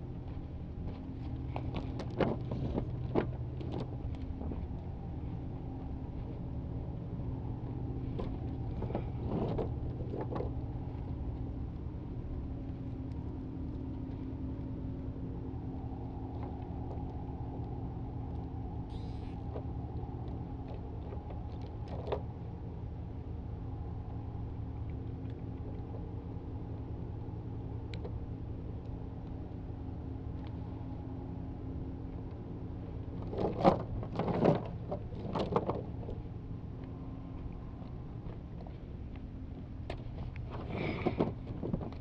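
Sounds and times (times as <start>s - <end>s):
motor droning: 0.0s - 42.0s.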